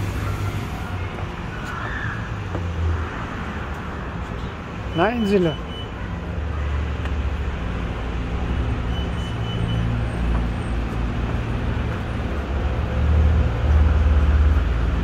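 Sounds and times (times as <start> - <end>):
vehicle rumble: 0.0 - 5.1, 6.2 - 15.0.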